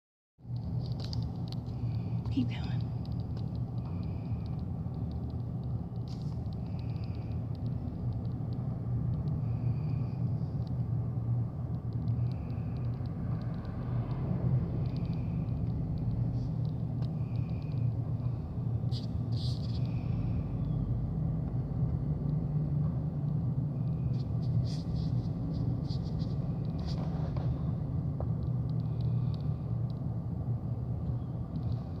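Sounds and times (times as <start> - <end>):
vehicle rumble from inside: 0.4 - 32.0.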